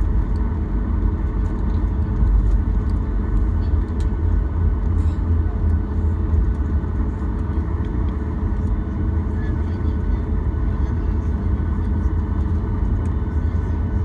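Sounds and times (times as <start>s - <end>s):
aircraft cabin rumble: 0.0s - 14.0s.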